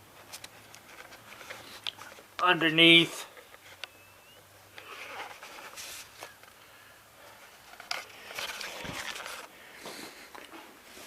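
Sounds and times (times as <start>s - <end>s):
rustling handling noises: 0.0s - 11.0s.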